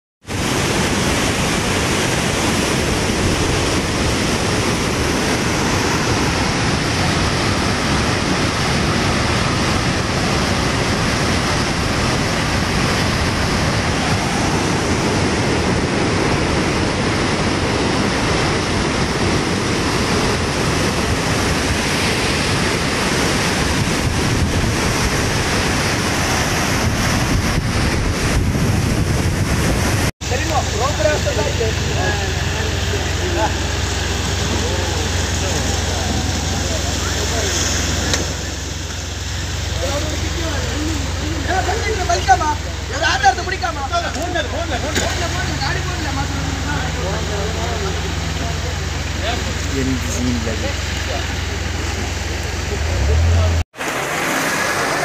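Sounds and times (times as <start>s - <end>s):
floodwater rushing over rocks: 0.2s - 55.0s.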